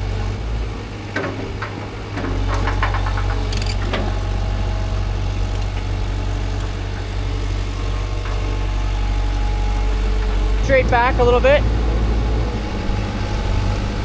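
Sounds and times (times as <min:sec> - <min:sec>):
excavator engine running: 0:00.0 - 0:14.0
metallic clanks: 0:00.3 - 0:13.8.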